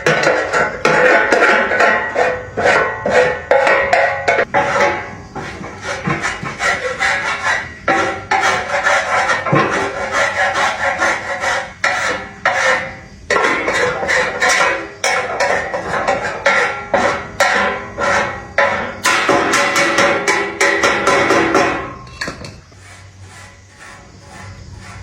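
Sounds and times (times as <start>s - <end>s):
hand scraping on metal: 0.0s - 25.0s.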